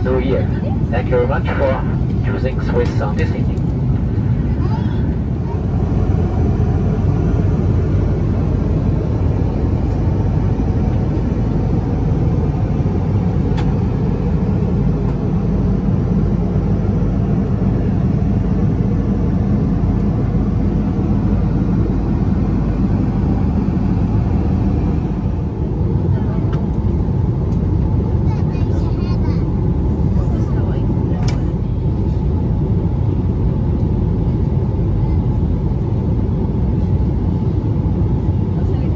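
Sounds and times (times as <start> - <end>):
aircraft cabin airflow and engines: 0.0 - 38.9.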